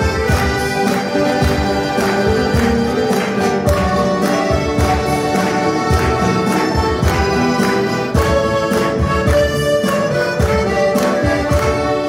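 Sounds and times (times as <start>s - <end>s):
accordion chords: 0.0s - 12.0s
acoustic guitar strumming: 0.0s - 12.0s.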